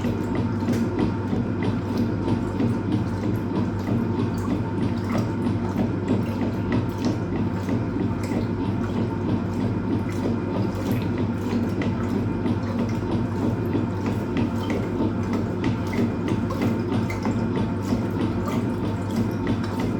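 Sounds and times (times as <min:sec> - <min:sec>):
washing machine motor hum: 0:00.0 - 0:19.9
water sloshing in tub: 0:00.0 - 0:19.9.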